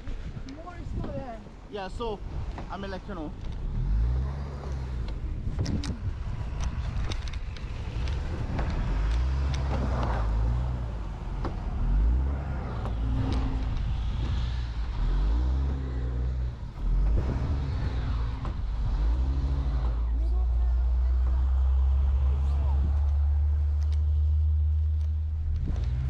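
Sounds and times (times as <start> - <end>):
car engine revving: 2.2 - 26.0.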